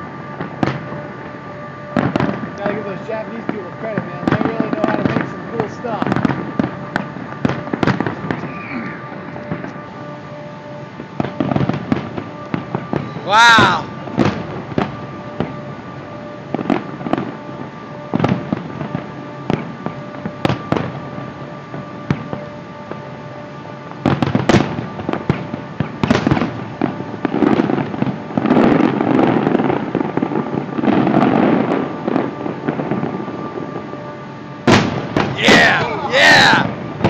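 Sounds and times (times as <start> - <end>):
dense firework crackling: 0.0 - 37.0.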